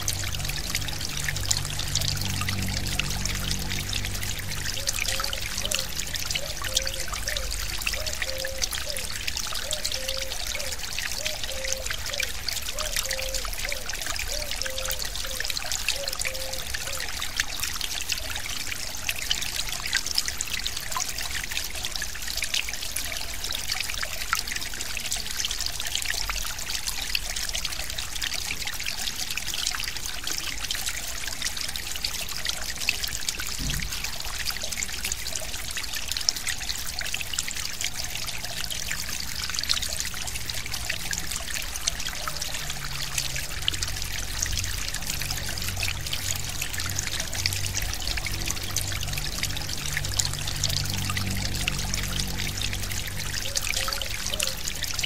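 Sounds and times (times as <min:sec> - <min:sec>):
small water splashes: 0:00.0 - 0:55.0
stream water trickling: 0:00.0 - 0:55.0.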